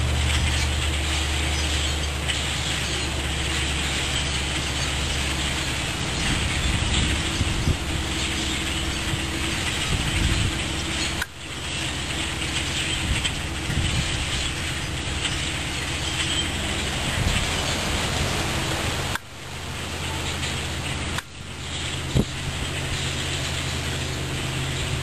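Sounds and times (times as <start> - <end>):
flock of birds chattering: 0.0 - 25.0.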